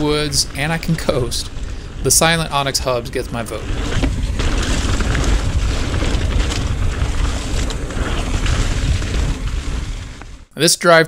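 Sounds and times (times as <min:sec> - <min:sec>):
wind rumble on microphone: 0:00.0 - 0:10.5
bike tire and trail noise: 0:00.0 - 0:10.6.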